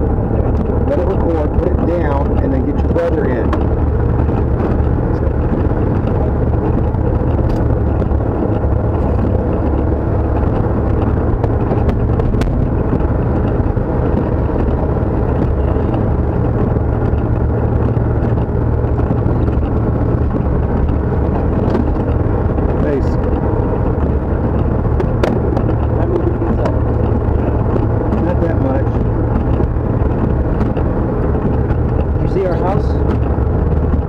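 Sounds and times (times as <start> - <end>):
pickup engine and road noise: 0.0 - 34.0.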